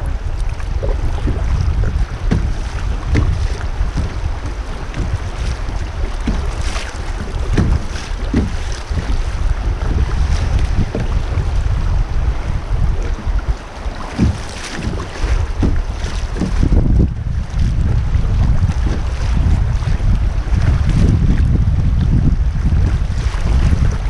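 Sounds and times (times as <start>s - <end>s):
fast river current rushing: 0.0s - 24.0s
kayak paddle splashes: 0.0s - 24.0s
wind buffeting microphone: 0.0s - 24.0s.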